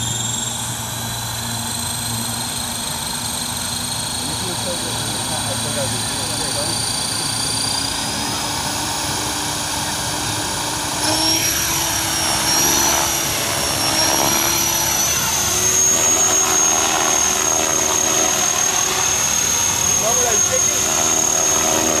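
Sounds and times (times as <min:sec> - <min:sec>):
electric motor and gears whining: 0:00.0 - 0:22.0
rotor blades spinning: 0:00.0 - 0:22.0.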